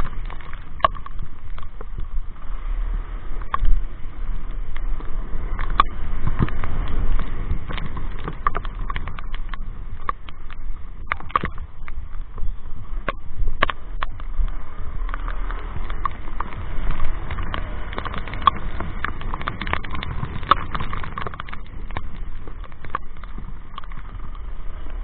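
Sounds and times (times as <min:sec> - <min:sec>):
low rumble of wind and riding: 0:00.0 - 0:25.0
raindrops tapping on helmet: 0:00.0 - 0:25.0.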